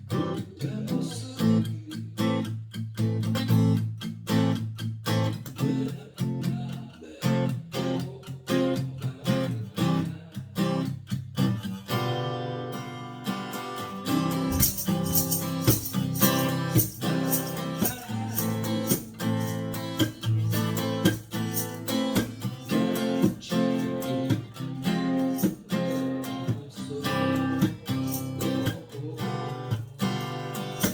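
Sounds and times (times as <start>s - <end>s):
acoustic guitar ballad: 0.0s - 30.9s.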